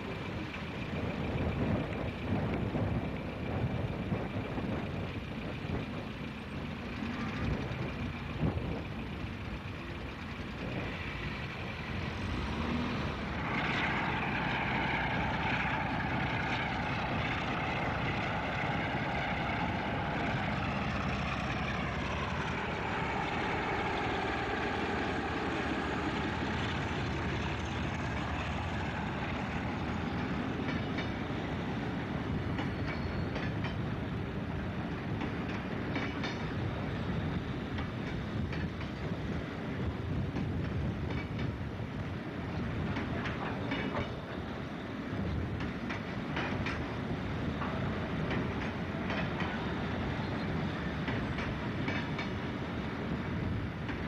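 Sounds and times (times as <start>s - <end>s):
diesel locomotive engine passing: 0.0s - 54.0s
wheels clattering over rail joints: 0.0s - 54.0s.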